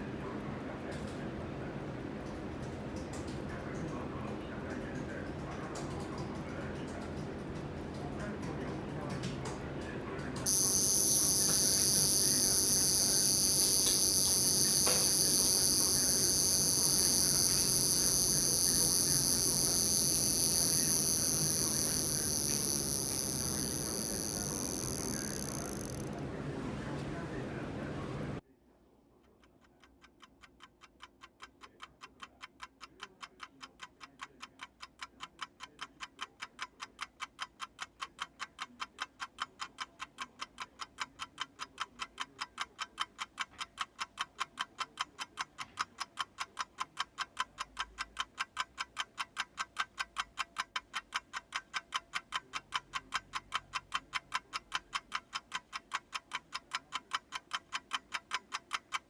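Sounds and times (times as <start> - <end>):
mechanical watch ticking: 0.0 - 28.4, 29.2 - 59.0.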